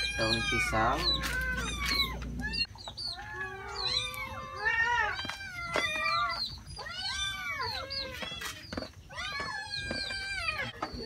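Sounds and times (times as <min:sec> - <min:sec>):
cats meowing: 0:00.0 - 0:11.0.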